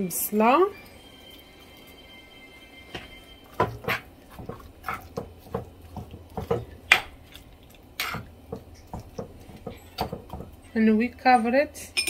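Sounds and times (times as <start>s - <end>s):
metal spoon scraping clay pot: 0.4s - 10.8s.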